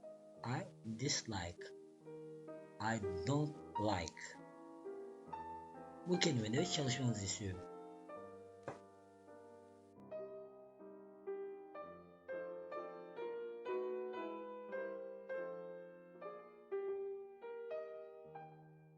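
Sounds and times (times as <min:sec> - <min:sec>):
gentle piano melody: 0:00.0 - 0:18.9.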